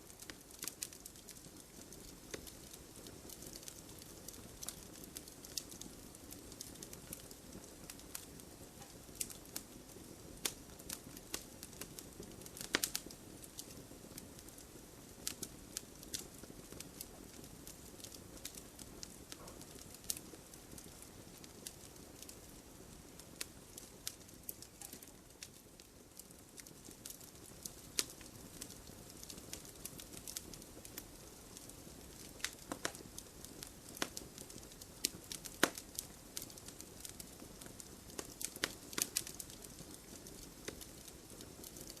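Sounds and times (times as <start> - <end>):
hiss of burning: 0.0 - 42.0
wood fire crackling: 0.0 - 42.0.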